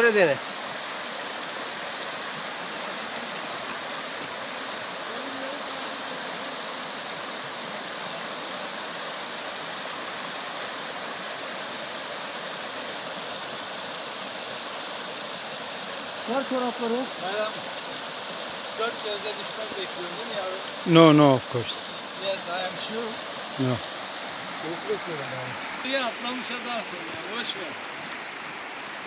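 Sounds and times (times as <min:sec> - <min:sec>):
stream rushing over stones: 0:00.0 - 0:29.0.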